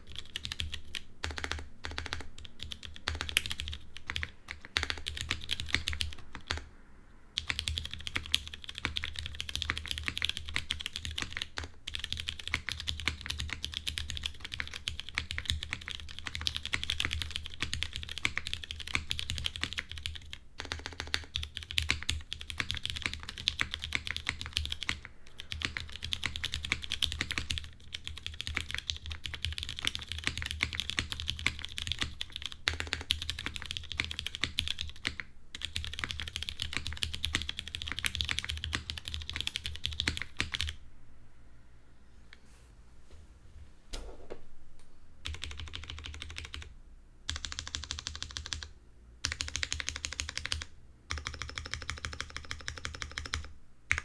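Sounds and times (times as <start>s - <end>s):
typing on mechanical keyboard: 0.0s - 6.7s, 7.4s - 40.8s, 45.2s - 46.7s, 47.3s - 54.0s.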